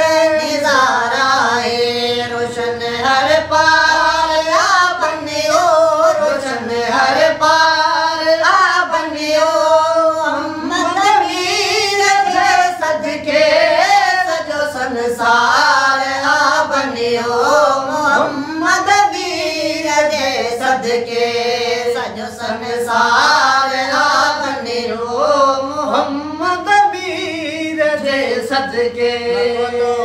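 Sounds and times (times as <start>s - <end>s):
boy singing: 0.0s - 30.0s
men singing: 0.0s - 30.0s.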